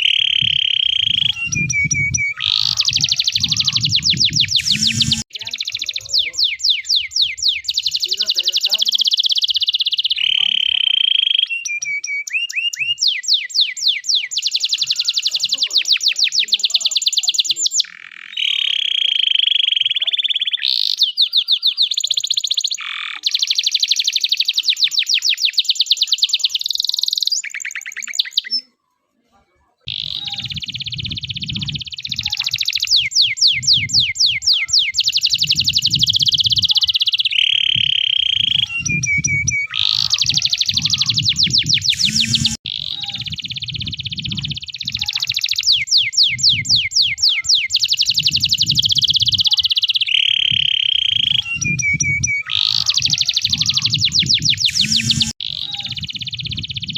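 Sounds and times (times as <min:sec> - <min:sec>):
canary singing trills: 0:00.0 - 0:28.8, 0:29.8 - 0:56.9.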